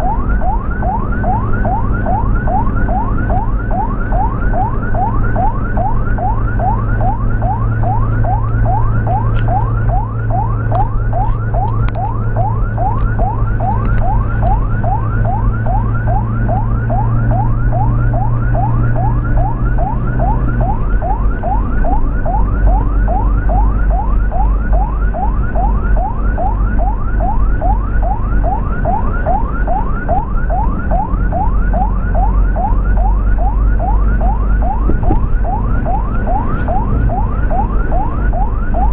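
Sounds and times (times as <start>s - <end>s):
ambulance siren yelping: 0.0s - 38.9s
vehicle engine droning: 0.0s - 38.9s.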